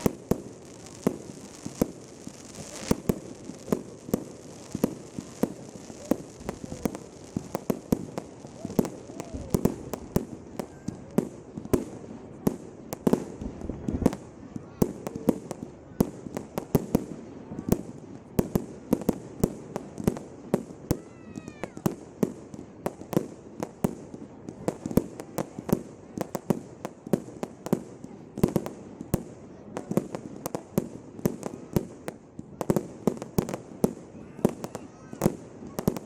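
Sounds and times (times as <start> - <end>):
fireworks bangs and cracks: 0.0 - 36.0.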